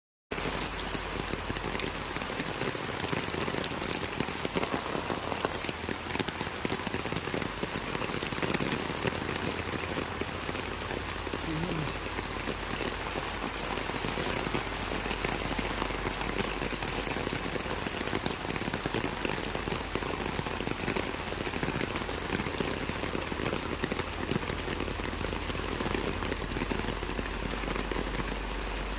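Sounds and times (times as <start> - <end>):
rain hissing: 0.3 - 28.9
sharp raindrop strikes: 0.4 - 28.9.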